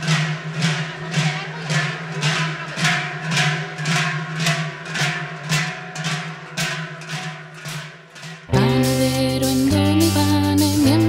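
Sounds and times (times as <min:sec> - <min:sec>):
large cowbells clanging: 0:00.0 - 0:10.0.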